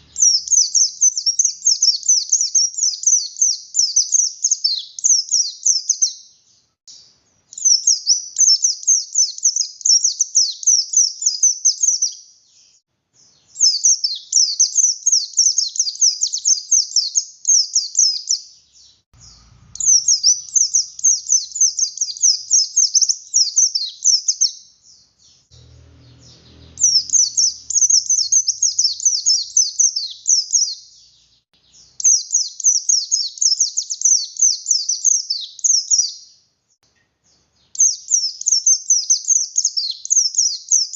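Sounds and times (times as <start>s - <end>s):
bird twittering chirps: 0.0s - 40.9s.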